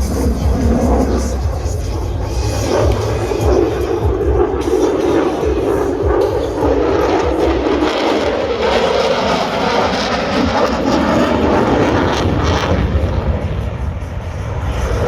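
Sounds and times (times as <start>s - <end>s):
jet aircraft flying over: 0.0s - 15.0s.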